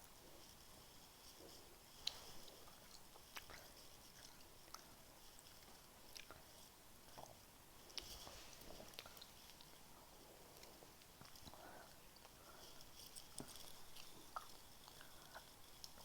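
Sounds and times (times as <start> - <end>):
person chewing sweet: 2.0 - 16.0.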